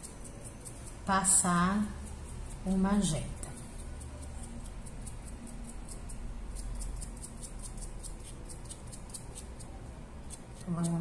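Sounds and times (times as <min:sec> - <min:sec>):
brush scratching paint on foam: 0:00.0 - 0:11.0
low steady hum: 0:00.0 - 0:11.0.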